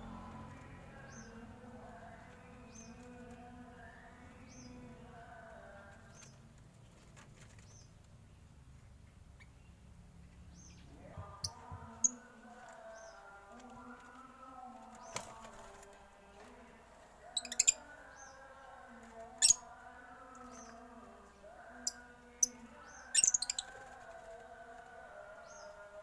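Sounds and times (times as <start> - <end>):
birds chirping high and sharp: 0.6 - 4.9, 6.1 - 6.5, 7.4 - 14.1, 14.9 - 15.9, 17.2 - 26.0.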